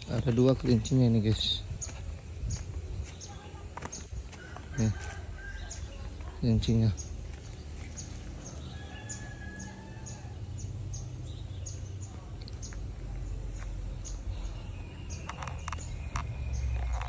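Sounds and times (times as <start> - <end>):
bird chirping: 0.0 - 17.0
steady low rumble: 0.0 - 17.0.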